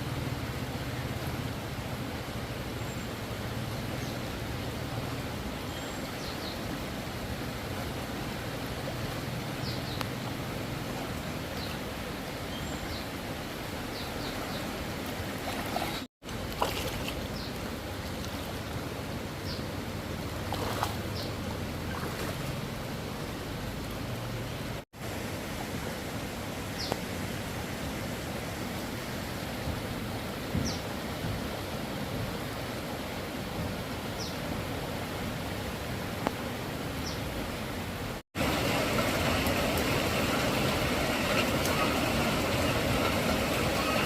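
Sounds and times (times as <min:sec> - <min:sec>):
rushing stream water: 0:00.0 - 0:44.0.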